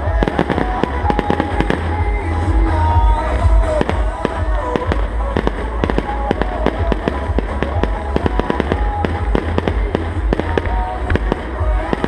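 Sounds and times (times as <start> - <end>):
deep continuous booming: 0.0 - 12.0
fireworks bangs and cracks: 0.0 - 12.0.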